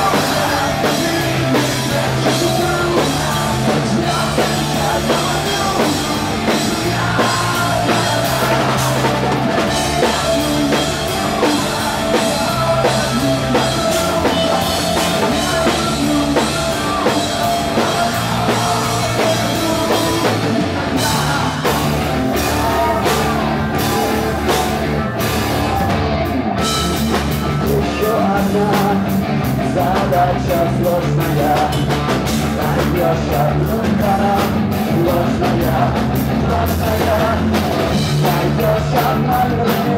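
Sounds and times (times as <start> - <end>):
drum kit beat: 0.0 - 39.9
person singing: 0.0 - 39.9
punk rock band playing live: 0.0 - 39.9.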